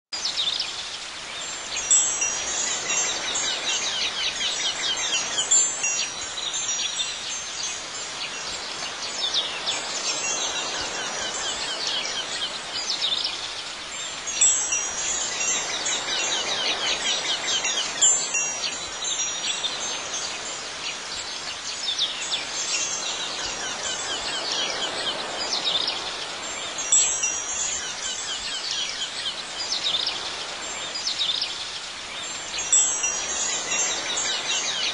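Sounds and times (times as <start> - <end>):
soft outdoor hiss: 0.1 - 34.9
wind chimes ringing: 1.4 - 31.5, 32.2 - 34.9.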